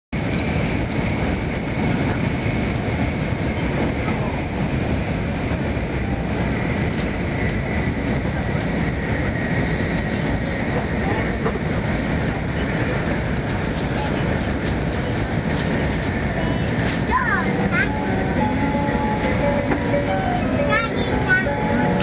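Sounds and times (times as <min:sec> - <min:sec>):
train rumble on the line: 0:00.1 - 0:22.0.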